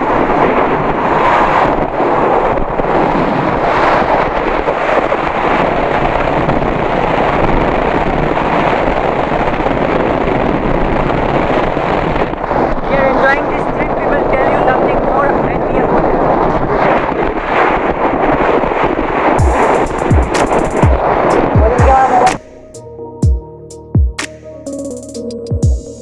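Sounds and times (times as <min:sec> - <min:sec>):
wind buffeting microphone: 0:00.0 - 0:23.1.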